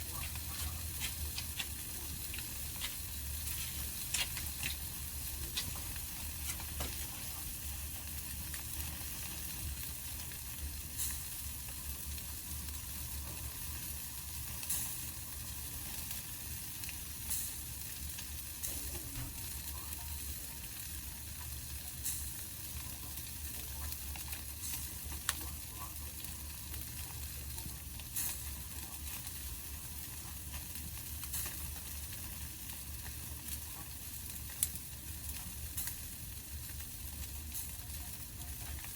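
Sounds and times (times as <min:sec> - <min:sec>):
campfire burning and crackling: 0:00.0 - 0:38.9.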